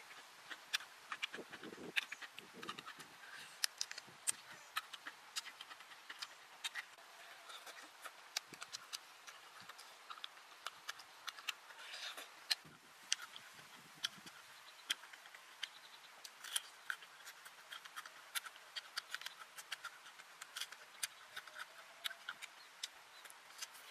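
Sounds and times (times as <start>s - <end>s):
chewing crunches: 0.0s - 23.9s
mouth clicks: 0.0s - 23.9s.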